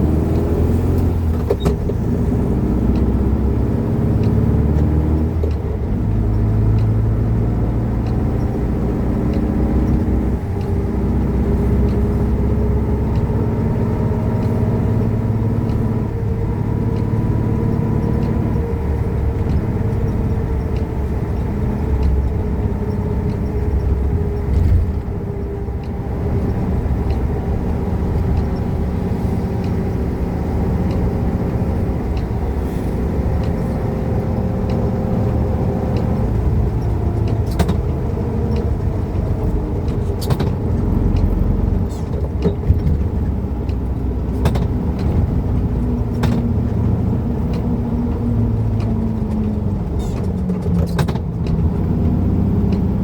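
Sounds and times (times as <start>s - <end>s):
car engine rumbling: 0.0s - 53.0s.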